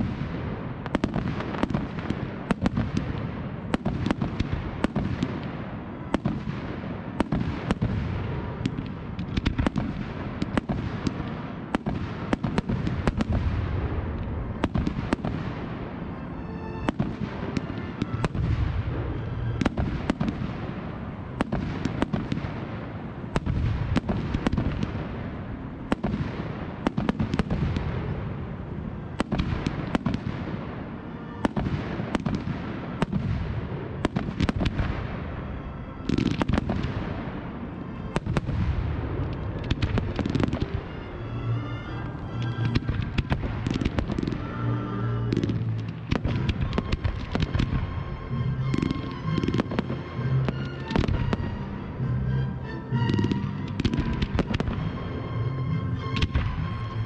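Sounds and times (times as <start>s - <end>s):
fireworks crackle: 0.0s - 52.3s, 52.9s - 55.2s.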